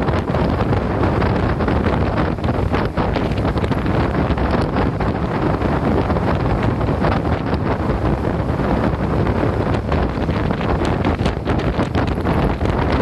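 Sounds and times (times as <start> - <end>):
boat running noise: 0.0 - 13.0
wind buffeting microphone: 0.0 - 13.0.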